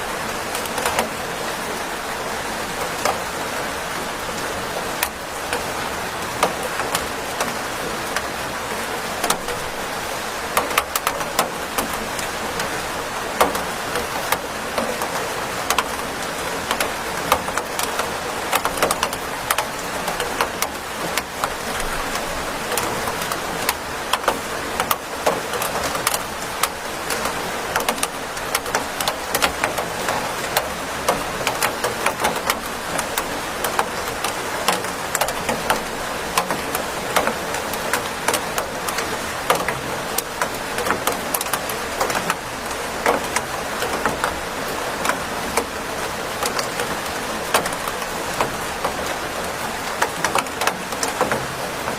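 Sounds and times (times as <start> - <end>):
rain on a hard surface: 0.0 - 51.9.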